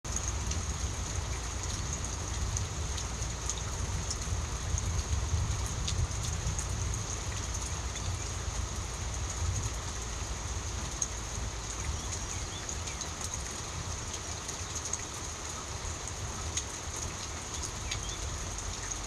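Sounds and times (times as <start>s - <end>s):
steady rain falling: 0.0s - 19.0s
raindrops ticking: 0.1s - 19.0s.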